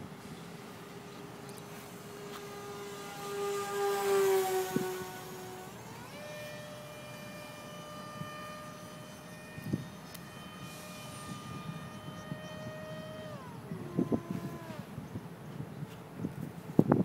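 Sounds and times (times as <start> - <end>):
electric ducted fan whining: 0.0 - 17.0.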